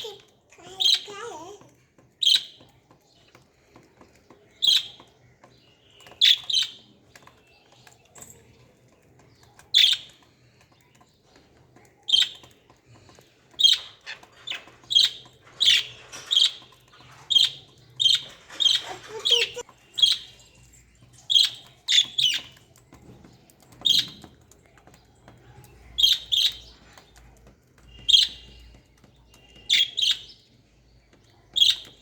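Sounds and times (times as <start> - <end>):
lovebirds chirping: 0.0 - 32.0.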